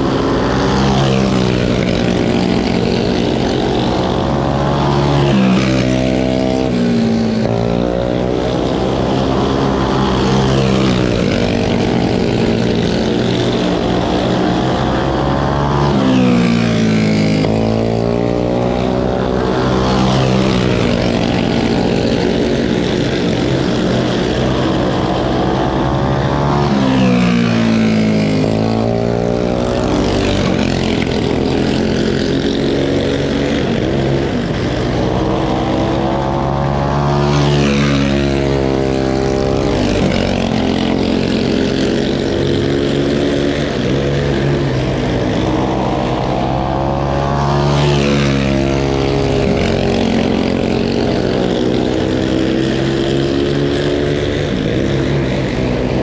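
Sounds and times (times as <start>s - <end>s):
go-kart engines racing: 0.0s - 56.0s.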